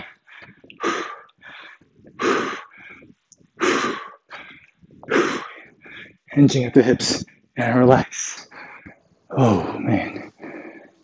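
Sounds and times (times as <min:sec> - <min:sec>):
quiet breaths in: 0:00.0 - 0:06.3, 0:08.5 - 0:11.0.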